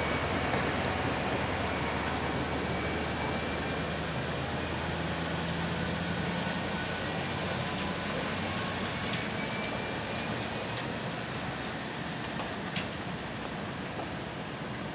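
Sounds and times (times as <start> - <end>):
low engine hum: 0.0 - 14.9
tyres rumbling on road: 0.0 - 14.9.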